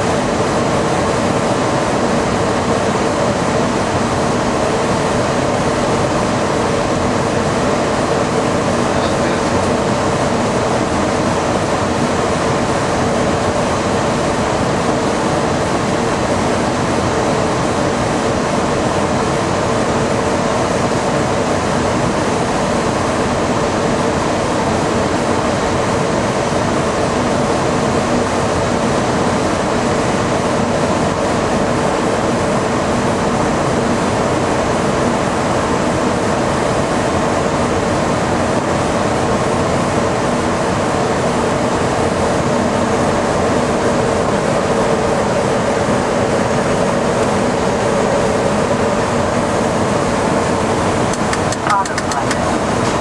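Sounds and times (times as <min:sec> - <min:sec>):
rushing air in cockpit: 0:00.0 - 0:53.0.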